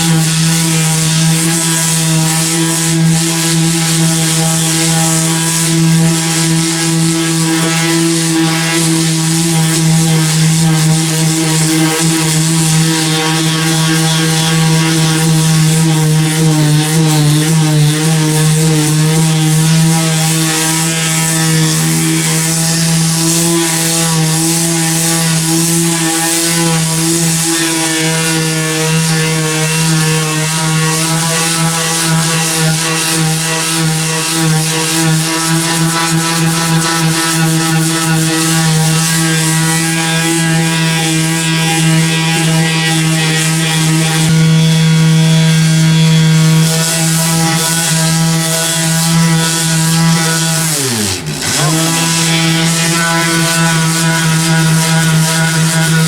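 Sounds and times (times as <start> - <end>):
electric power sander running: 0.0 - 56.0.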